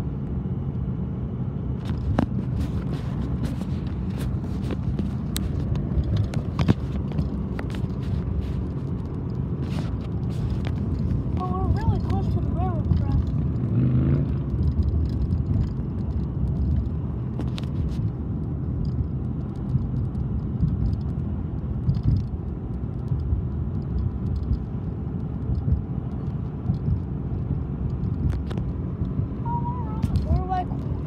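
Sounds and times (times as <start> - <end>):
vehicle interior rumble: 0.0 - 31.0.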